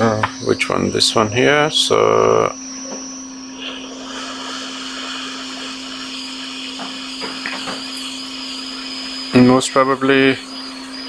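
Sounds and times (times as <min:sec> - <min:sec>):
hot air station hissing: 0:00.0 - 0:11.0
low hum: 0:00.0 - 0:11.0.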